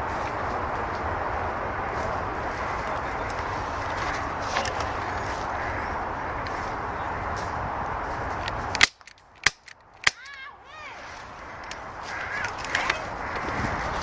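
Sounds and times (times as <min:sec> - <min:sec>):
steady rustling noise: 0:00.0 - 0:14.0.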